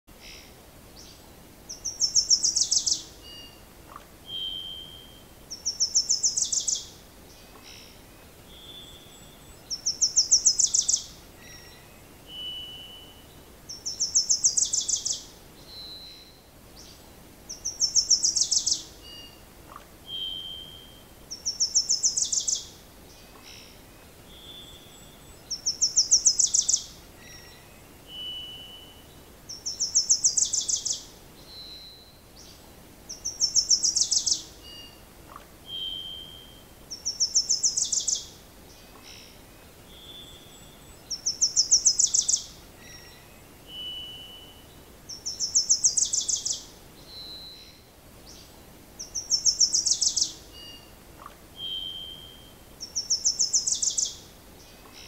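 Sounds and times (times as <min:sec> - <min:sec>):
songbird trilling: 0:01.7 - 0:06.9, 0:08.6 - 0:11.8, 0:13.7 - 0:16.9, 0:17.5 - 0:22.7, 0:24.4 - 0:32.1, 0:33.1 - 0:47.8, 0:49.0 - 0:55.0.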